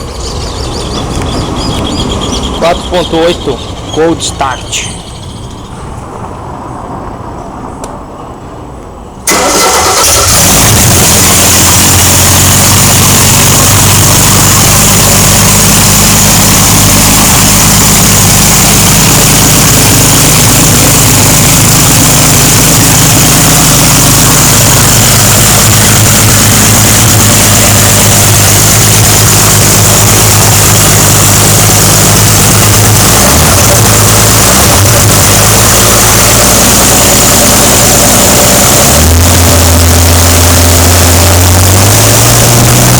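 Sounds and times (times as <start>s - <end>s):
car engine idling: 0.0s - 6.2s, 9.2s - 42.9s.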